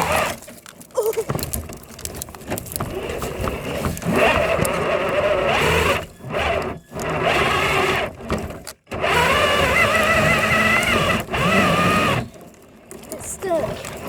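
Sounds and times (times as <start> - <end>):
toy truck motor whining: 0.0 - 1.5, 2.6 - 14.0.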